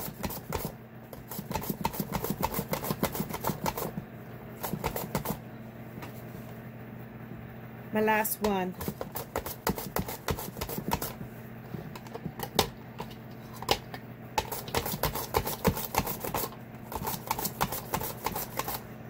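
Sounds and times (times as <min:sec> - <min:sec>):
food dehydrator humming: 0:00.0 - 0:19.0.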